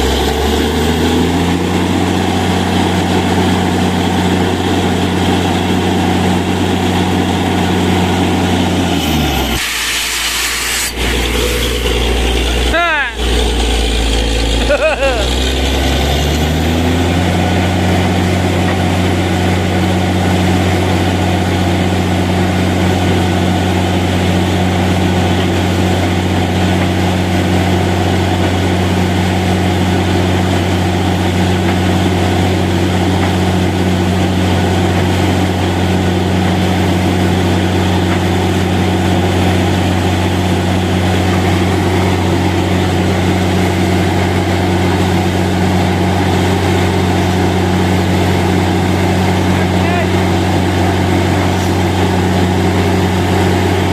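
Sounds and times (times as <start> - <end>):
drilling rig engine drone: 0.0 - 53.9.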